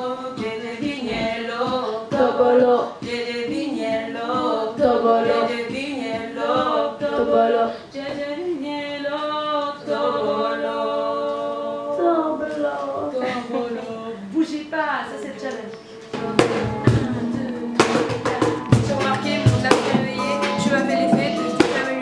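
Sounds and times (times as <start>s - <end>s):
women singing a cappella: 0.0s - 22.0s.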